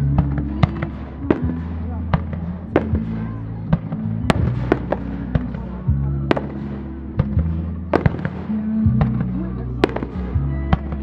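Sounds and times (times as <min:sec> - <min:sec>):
background music: 0:00.0 - 0:11.0
fireworks bursting with sharp bangs: 0:00.0 - 0:11.0.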